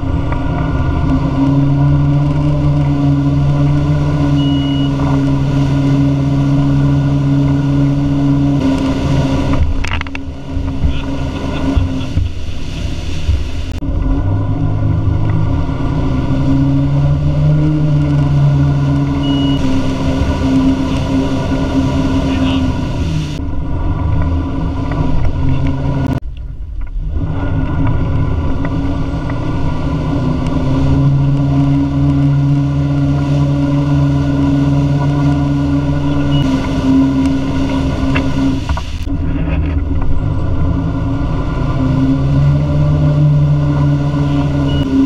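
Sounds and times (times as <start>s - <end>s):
boat engine droning: 0.0s - 45.0s
rush of boat wake: 0.0s - 45.0s.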